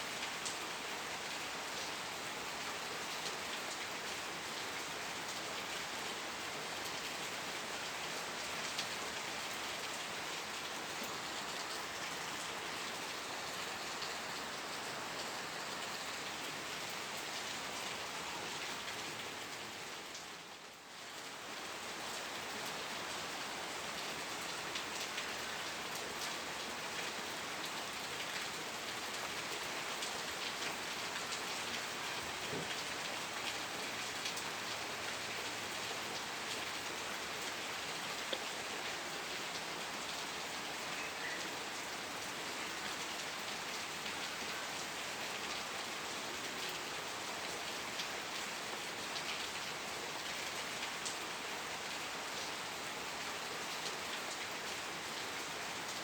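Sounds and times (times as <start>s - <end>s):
rain drops pattering on a surface: 0.0s - 56.0s.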